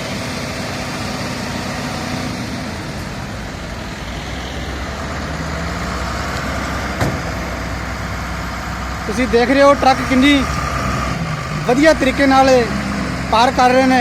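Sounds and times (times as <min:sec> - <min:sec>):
heavy vehicle engine hum: 0:00.0 - 0:14.0
road traffic passing: 0:00.0 - 0:14.0.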